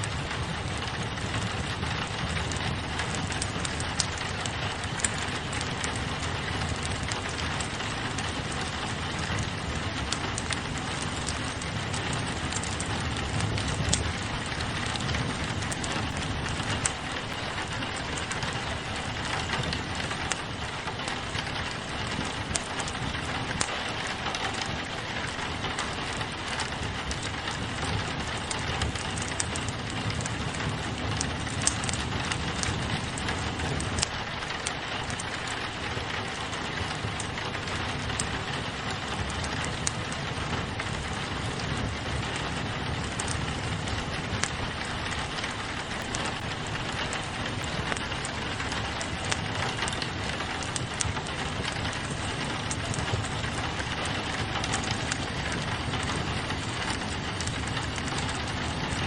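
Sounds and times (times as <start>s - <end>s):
rain pattering on window: 0.0s - 59.0s
wood fire crackling and popping: 0.0s - 59.0s.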